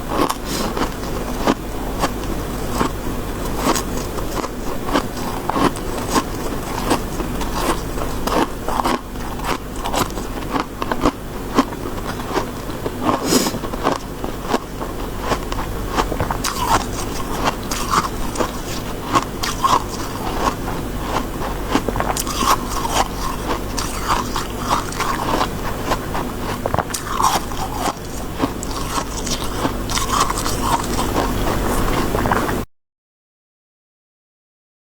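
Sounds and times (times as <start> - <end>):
crunching ice chewing: 0.0 - 32.6.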